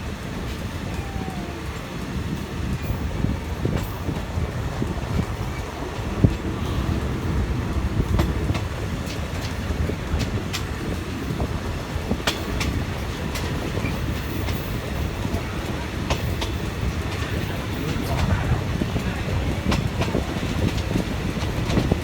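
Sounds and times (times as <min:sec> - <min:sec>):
clicks from train wheels: 0:00.0 - 0:22.0
train rumbling along track: 0:00.0 - 0:22.0.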